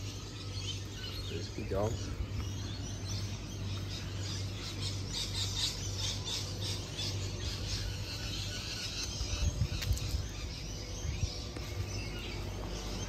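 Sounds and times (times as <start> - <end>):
birds chirping and squawking: 0.0 - 13.0
steady low hum: 0.0 - 13.0.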